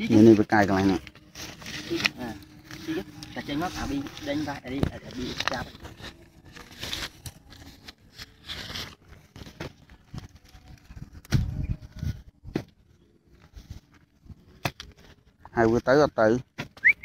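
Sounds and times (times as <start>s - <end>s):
dry grass rustling: 0.0s - 16.0s.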